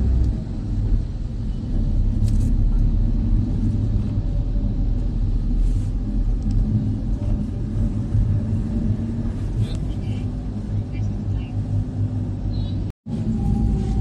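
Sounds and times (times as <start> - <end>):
road rumble inside van: 0.0 - 14.0
van engine noise: 0.0 - 14.0.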